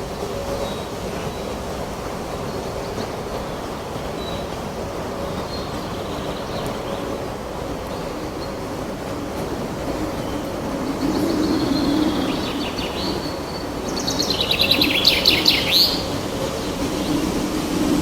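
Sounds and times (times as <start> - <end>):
wind blowing through forest: 0.0 - 18.0.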